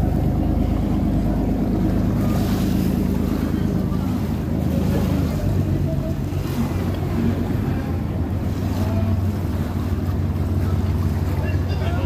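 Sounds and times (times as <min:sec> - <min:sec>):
boat engine droning: 0:00.0 - 0:12.0
waves: 0:00.0 - 0:12.0.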